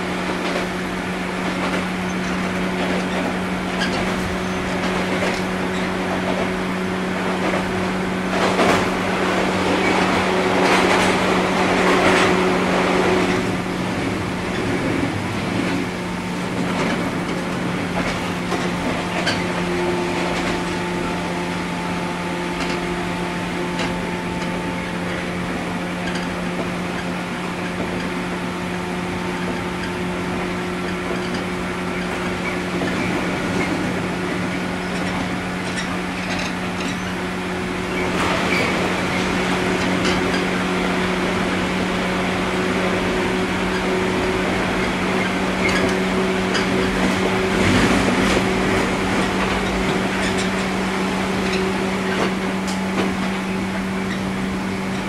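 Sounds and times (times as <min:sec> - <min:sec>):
train machinery hum: 0:00.0 - 0:55.0.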